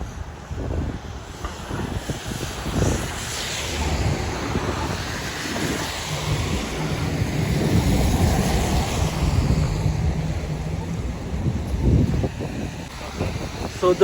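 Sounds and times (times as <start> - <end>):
storm wind gusting on microphone: 0.0 - 14.0
street traffic hum: 0.0 - 14.0.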